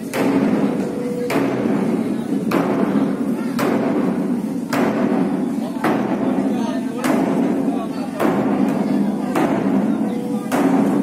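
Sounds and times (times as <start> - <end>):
drum struck in slow beat: 0.0 - 11.0.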